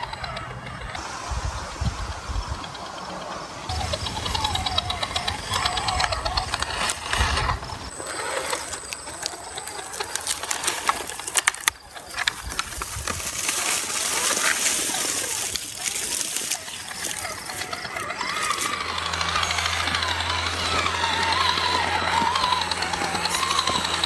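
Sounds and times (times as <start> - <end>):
electric motor whining: 0.0 - 24.0
tyres clicking and crackling: 2.8 - 24.0.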